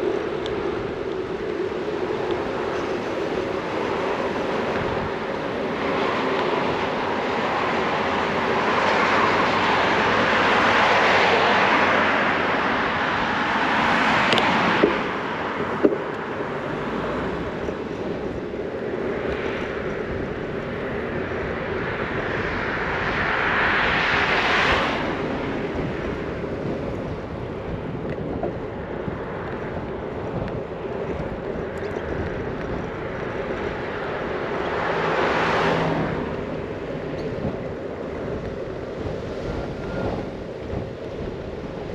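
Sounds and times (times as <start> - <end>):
cars passing: 0.0 - 41.9
wind and road rush: 0.0 - 41.9.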